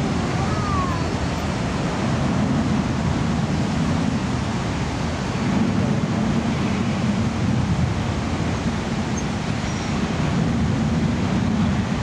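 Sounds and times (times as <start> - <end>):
cascading water: 0.0 - 12.0.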